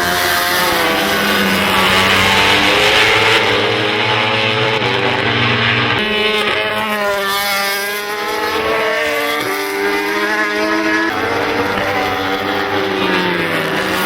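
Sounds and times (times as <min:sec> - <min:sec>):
racing motorcycles at high revs: 0:00.0 - 0:14.0.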